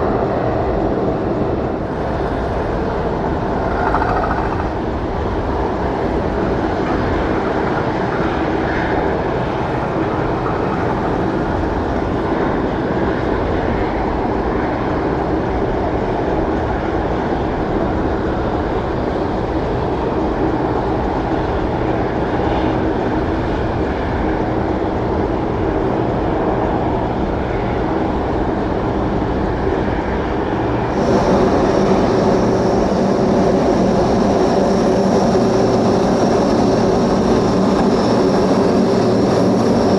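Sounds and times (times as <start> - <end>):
aircraft engines running: 0.0 - 39.9
high steady engine whine: 0.0 - 39.9.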